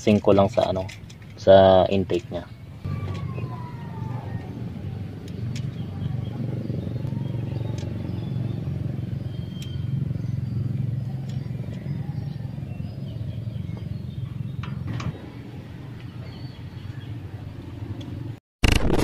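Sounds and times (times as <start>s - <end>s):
low motor-like rumble: 0.0s - 18.4s.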